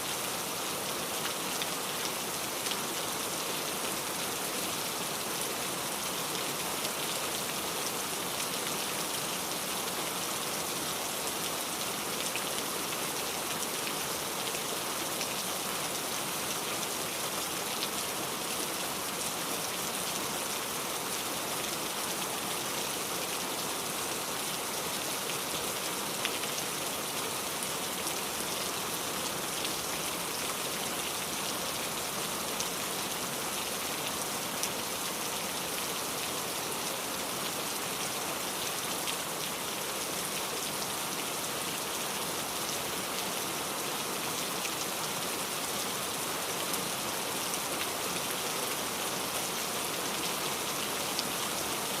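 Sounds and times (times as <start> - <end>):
steady rainfall hiss: 0.0 - 52.0.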